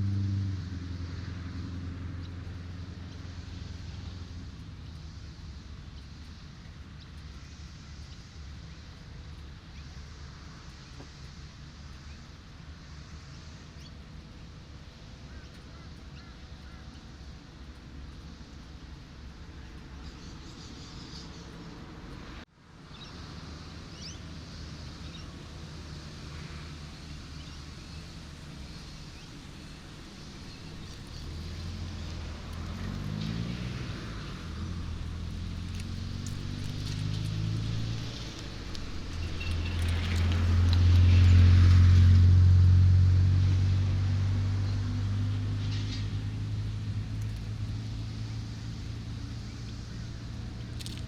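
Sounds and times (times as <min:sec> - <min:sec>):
low vehicle engine hum: 0:00.0 - 0:51.0
road traffic: 0:00.0 - 0:51.0.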